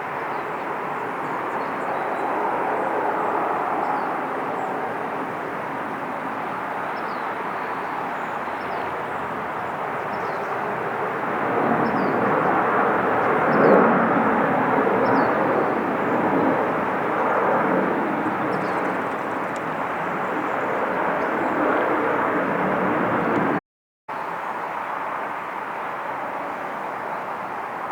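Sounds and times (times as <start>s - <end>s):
jet airliner passing: 0.1s - 23.6s.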